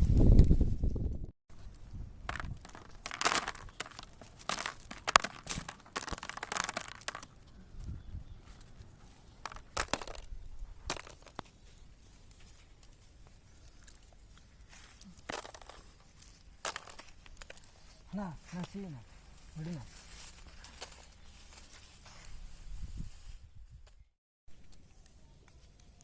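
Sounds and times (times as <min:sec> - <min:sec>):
dry plants rustling and crackling: 0:00.0 - 0:26.0.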